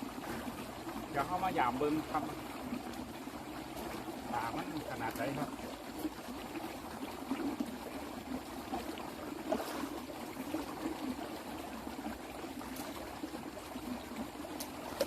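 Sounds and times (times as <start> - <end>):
faint splashes: 0.0 - 15.0
water trickling: 0.0 - 15.0.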